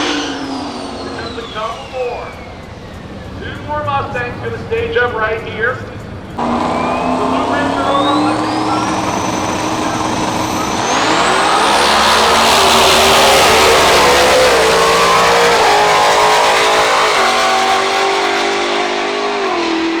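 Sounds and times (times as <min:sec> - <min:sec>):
high whine climbing in pitch: 0:00.0 - 0:19.8
car engines accelerating: 0:00.0 - 0:20.0.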